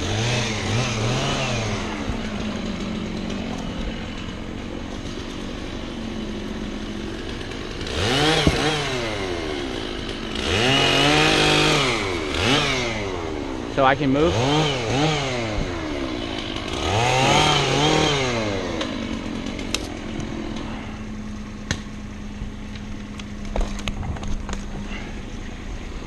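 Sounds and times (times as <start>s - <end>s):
chainsaw idling and revving: 0.0s - 26.0s.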